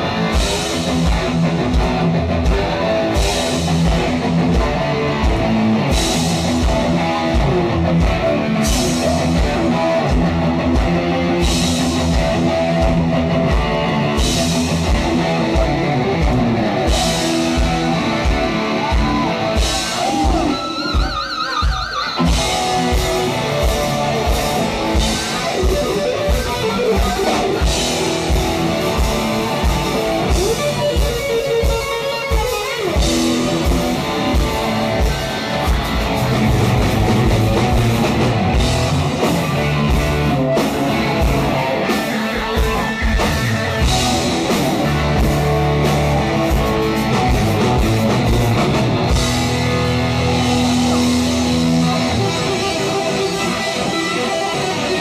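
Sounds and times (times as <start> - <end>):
electric guitar solo: 0.0 - 55.0.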